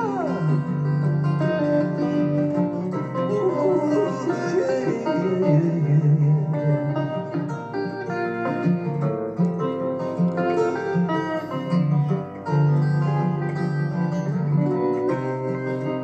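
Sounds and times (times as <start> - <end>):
acoustic guitar: 0.0 - 16.0
electric guitar: 0.0 - 16.0
mandolin: 0.0 - 16.0.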